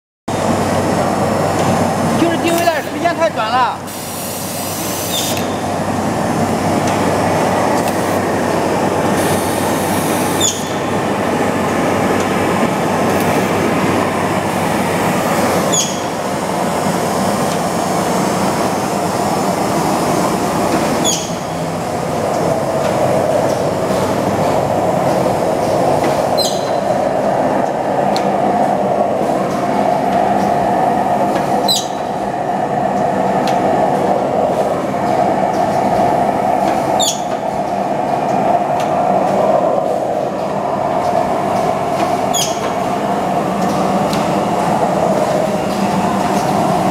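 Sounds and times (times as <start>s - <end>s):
machine whirring and clattering: 0.3s - 46.9s.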